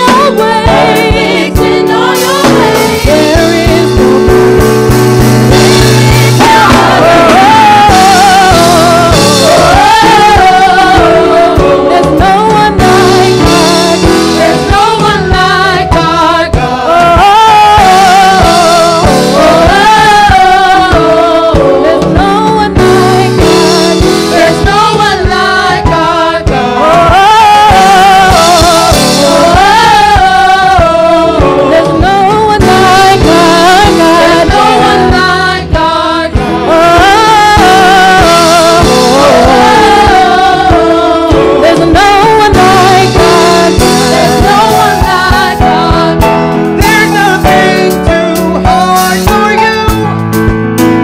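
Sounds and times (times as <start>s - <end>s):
choir singing gospel: 0.0s - 50.1s
instrumental accompaniment with beat: 0.0s - 51.0s.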